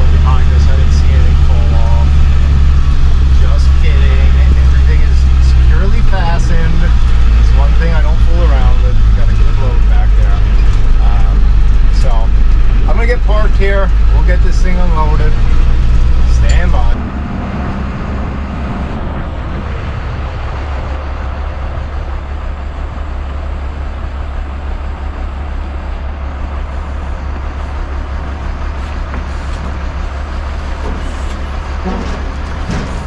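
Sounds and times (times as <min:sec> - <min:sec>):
diesel truck engine rumbling: 0:00.0 - 0:33.0.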